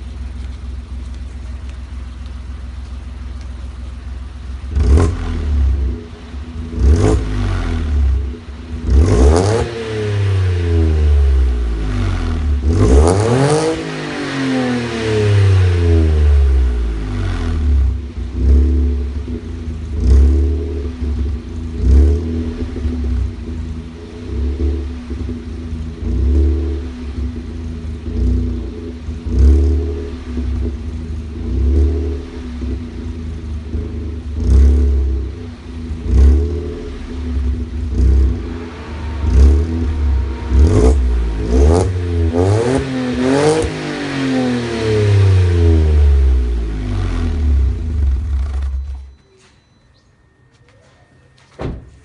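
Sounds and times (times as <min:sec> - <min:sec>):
car engine idling and revving: 0:00.0 - 0:49.3.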